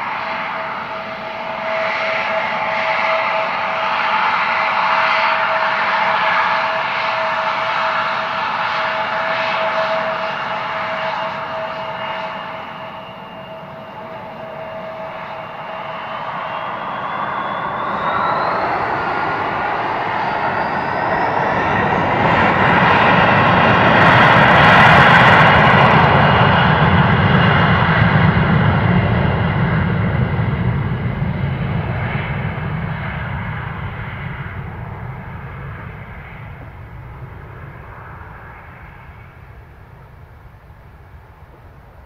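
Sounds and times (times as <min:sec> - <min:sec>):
jet engine roar and whine: 0:00.0 - 0:42.0.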